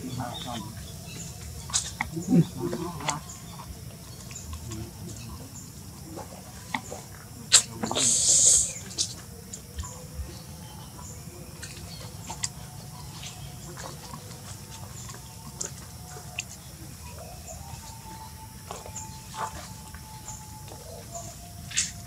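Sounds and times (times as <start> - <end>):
clicks and rustles of leaves: 0.0 - 22.0
faint chirps: 0.0 - 22.0
low outdoor background: 0.0 - 22.0.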